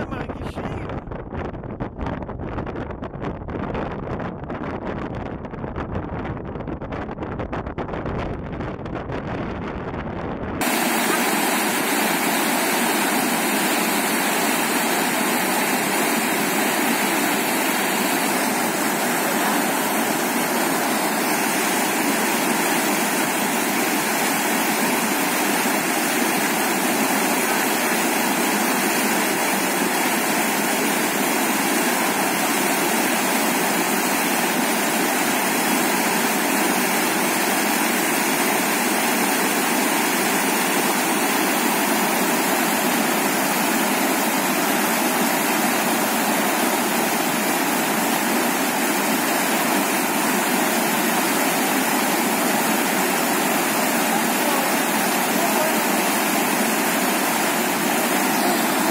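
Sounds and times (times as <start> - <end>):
waterfall rushing: 10.6 - 58.9.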